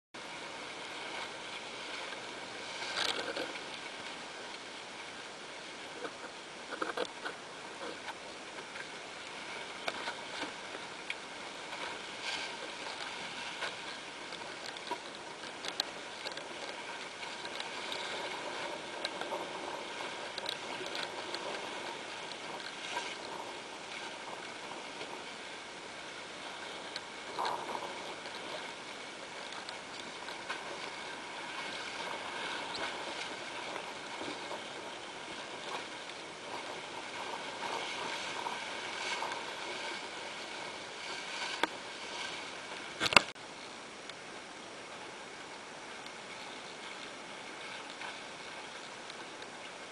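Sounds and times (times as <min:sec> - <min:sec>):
water rushing along a hull: 0:00.2 - 0:49.9.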